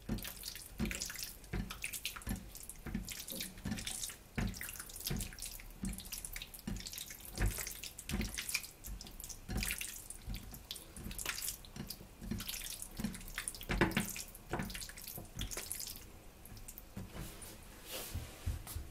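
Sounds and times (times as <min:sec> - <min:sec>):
hand kneading meat in marinade: 0:00.0 - 0:18.9.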